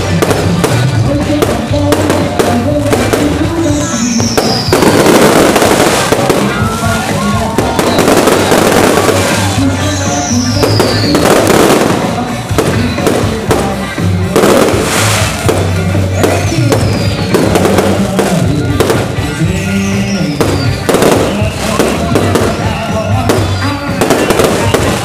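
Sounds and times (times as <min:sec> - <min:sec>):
fireworks bursting and crackling: 0:00.0 - 0:25.0
fireworks whistling: 0:00.0 - 0:25.0.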